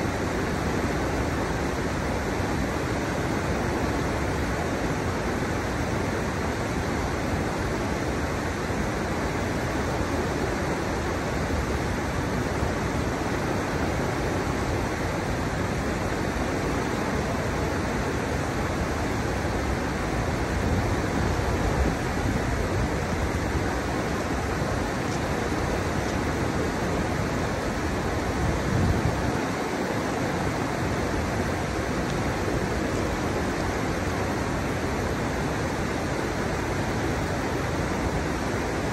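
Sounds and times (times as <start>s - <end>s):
river water rushing over steps: 0.0s - 38.9s.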